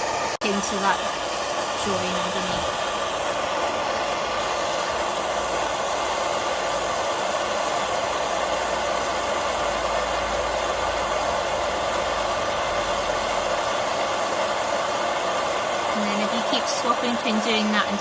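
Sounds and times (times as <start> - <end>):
gas torch hissing: 0.0 - 18.0.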